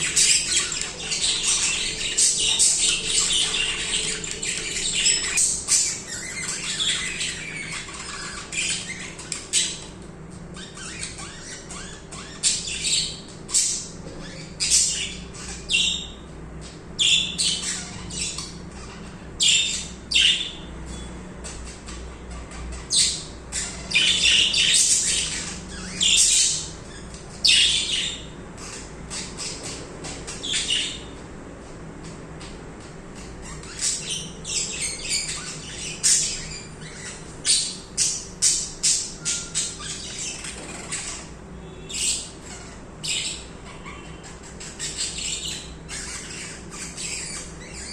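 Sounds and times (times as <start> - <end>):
budgerigars chirping and squawking: 0.0 - 31.2, 32.0 - 47.9.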